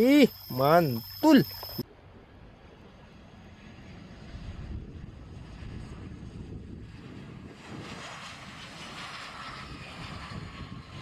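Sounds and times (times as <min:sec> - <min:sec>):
jet engines of landing airliner: 0:00.0 - 0:11.0
wind rumble on microphone: 0:01.7 - 0:11.0.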